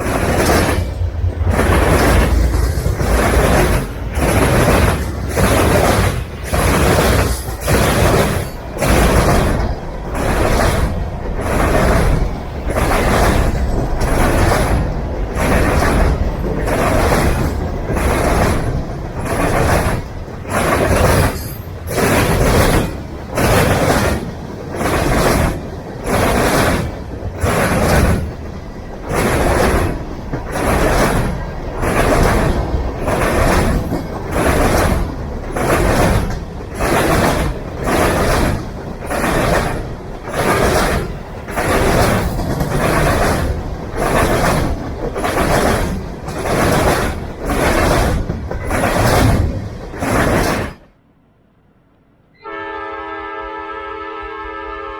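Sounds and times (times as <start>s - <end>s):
freight train cars rolling past: 0.0s - 54.9s.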